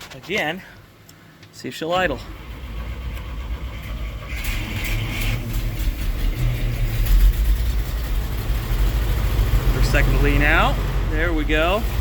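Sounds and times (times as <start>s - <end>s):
truck engine running: 2.0s - 12.0s.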